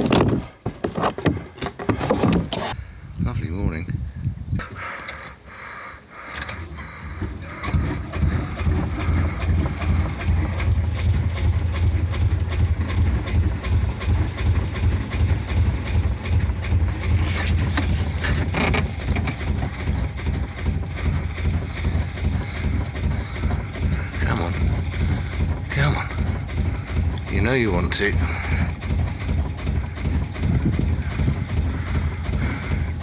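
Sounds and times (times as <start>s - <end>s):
boat engine turning over: 4.6s - 33.0s.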